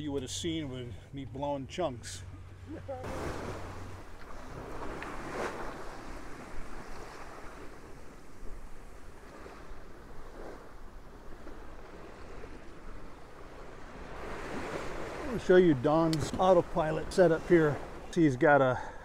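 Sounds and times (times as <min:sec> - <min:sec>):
sea water rushing along hull: 0:00.0 - 0:19.0.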